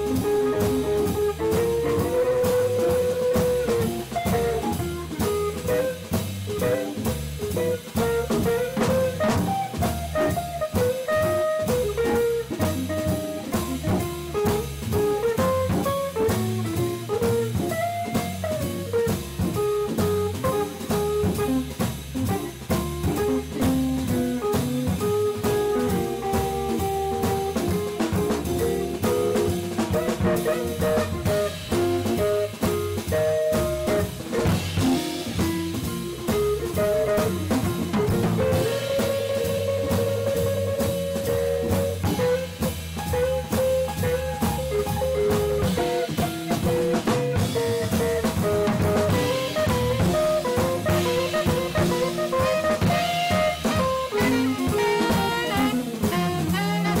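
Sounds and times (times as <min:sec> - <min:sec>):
drum kit: 0:00.0 - 0:57.0
electric guitar melody: 0:00.0 - 0:57.0.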